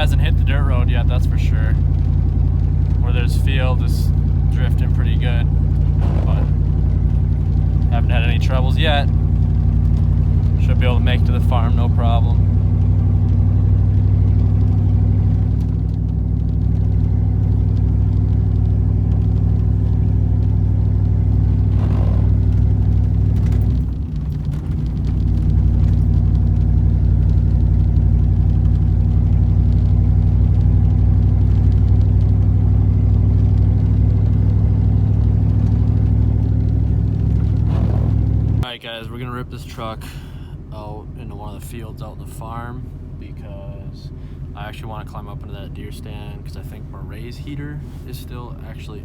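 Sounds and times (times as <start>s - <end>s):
truck engine droning: 0.0s - 49.0s.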